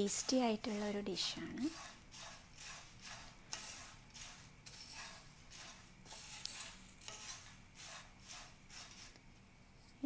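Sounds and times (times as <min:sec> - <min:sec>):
spatula stirring in a pan: 0:00.0 - 0:09.3.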